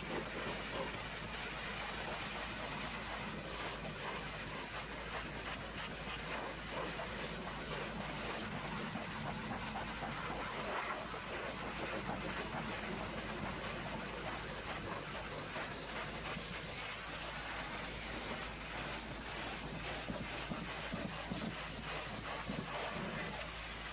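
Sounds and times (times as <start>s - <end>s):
pressure washer spraying metal: 0.0s - 23.9s.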